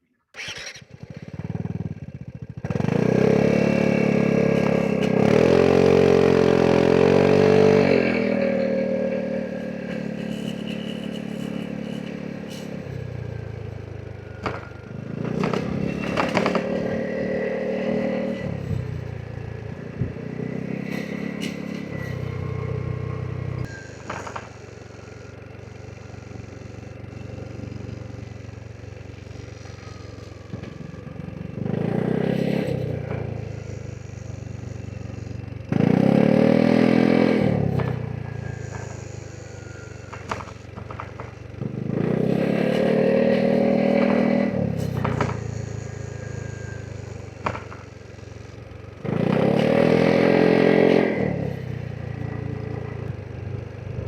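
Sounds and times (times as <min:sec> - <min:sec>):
scooter engine accelerating: 0:00.3 - 0:54.0.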